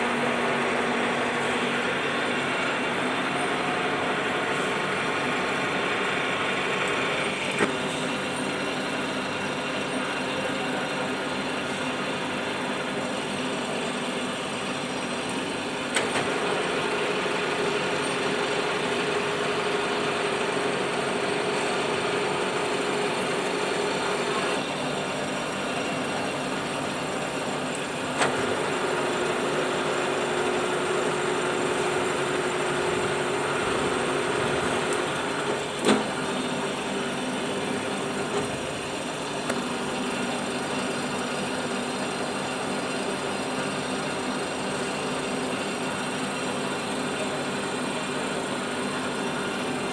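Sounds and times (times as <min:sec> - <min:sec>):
boring machine humming: 0:00.0 - 0:49.9
steady machine whine: 0:00.0 - 0:49.9.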